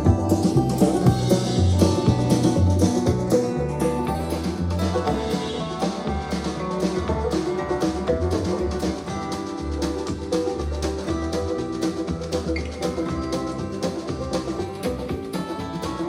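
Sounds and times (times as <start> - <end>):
music with beat and bass line: 0.0 - 16.0.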